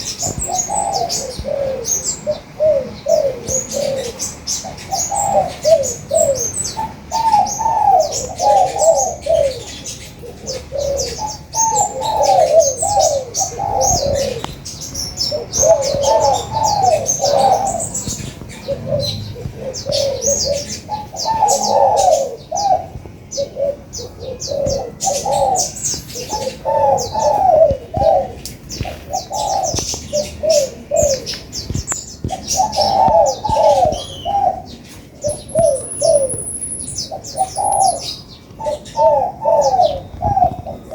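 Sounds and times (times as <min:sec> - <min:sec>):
doves cooing: 0:00.0 - 0:40.9
sunbirds chirping: 0:00.0 - 0:40.9.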